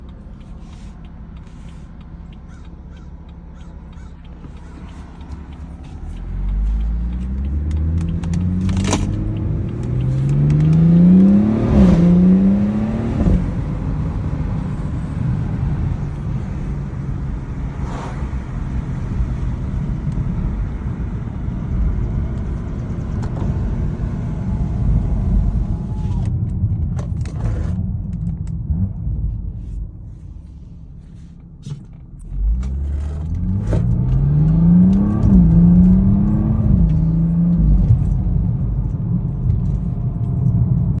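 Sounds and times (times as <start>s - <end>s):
engine and road rumble: 0.0s - 41.0s
car whine rising in pitch: 1.4s - 41.0s.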